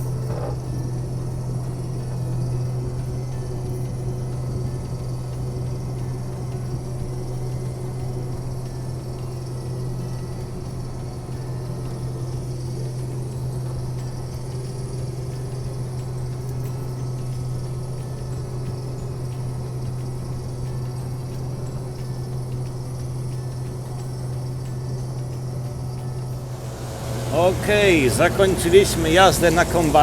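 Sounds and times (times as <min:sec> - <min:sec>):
combine harvester droning: 0:00.0 - 0:30.0.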